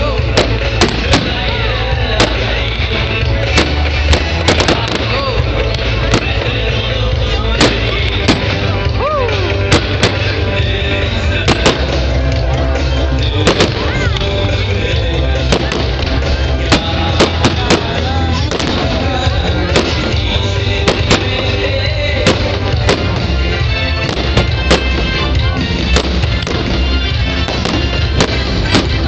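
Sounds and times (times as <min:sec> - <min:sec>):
fireworks bursting: 0:00.0 - 0:29.0
loud music: 0:00.0 - 0:29.0.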